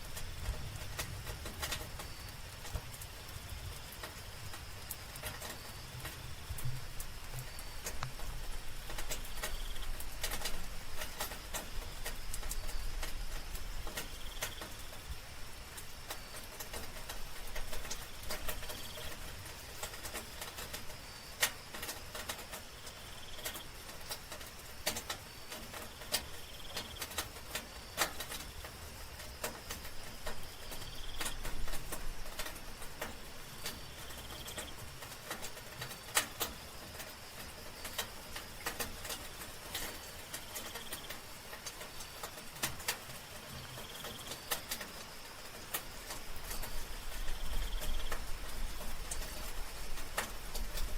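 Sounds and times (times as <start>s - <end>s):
night insects trilling: 0.0s - 50.9s
soft rain drops clicking: 0.0s - 50.9s.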